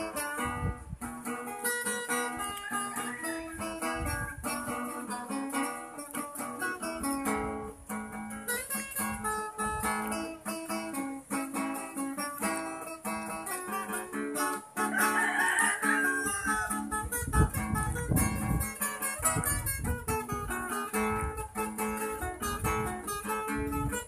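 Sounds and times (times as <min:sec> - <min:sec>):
guitar playing melody: 0:00.0 - 0:24.0.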